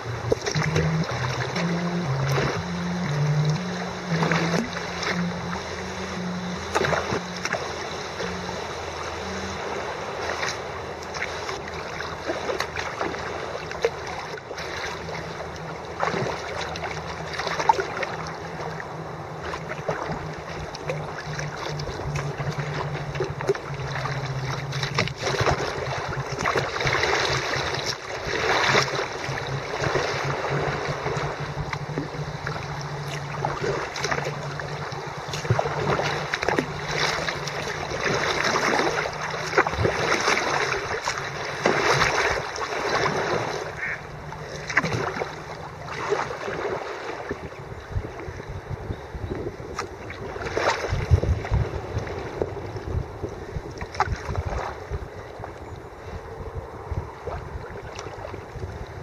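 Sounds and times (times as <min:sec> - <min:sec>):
river water rushing: 0:00.0 - 0:47.4
paddle splashing: 0:00.0 - 0:59.0.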